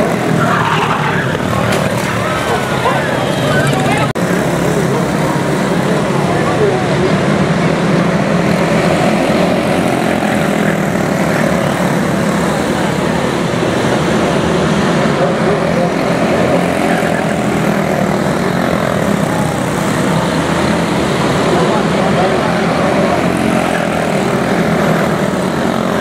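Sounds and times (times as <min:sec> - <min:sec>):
small race car engines buzzing: 0:00.0 - 0:26.0.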